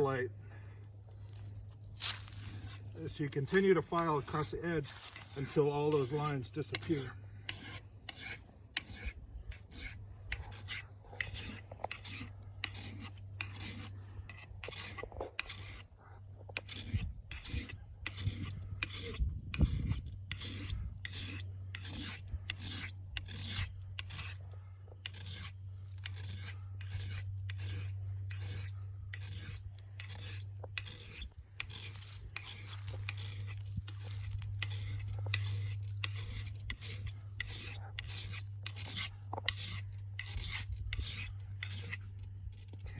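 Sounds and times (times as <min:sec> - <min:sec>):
steady low hum: 0:00.0 - 0:42.9
file rasping on steel: 0:01.4 - 0:42.9.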